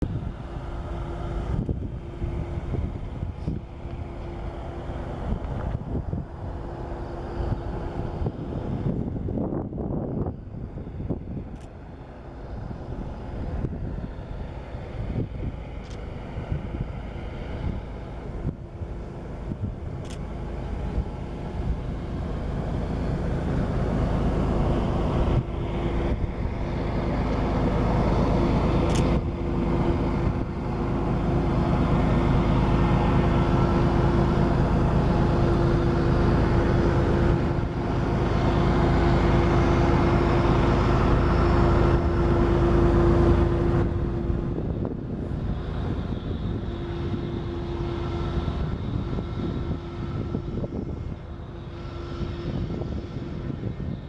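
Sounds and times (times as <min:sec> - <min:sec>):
diesel locomotive engines rumbling: 0:00.0 - 0:54.0
steady whine: 0:00.0 - 0:54.0.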